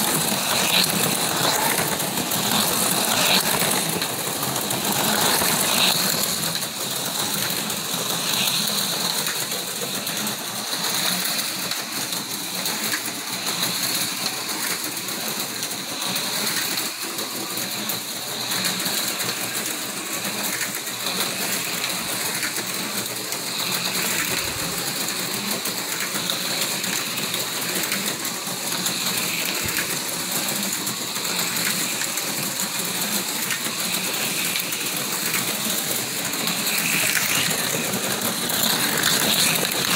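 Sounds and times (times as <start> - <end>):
electric motors whining: 0.0 - 39.9
slot cars rattling: 0.0 - 39.9.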